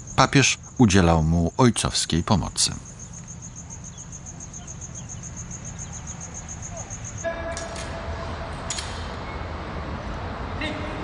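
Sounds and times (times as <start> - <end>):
cricket chirping: 0.0 - 10.1.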